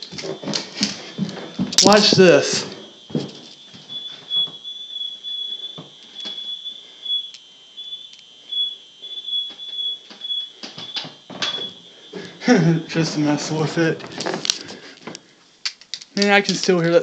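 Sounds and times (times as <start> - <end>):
alarm sounder high steady tone: 0.0 - 15.5.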